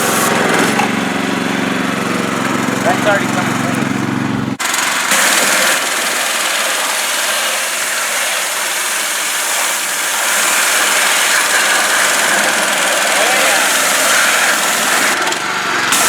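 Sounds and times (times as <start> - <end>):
pressure washer spraying water: 0.0 - 16.0.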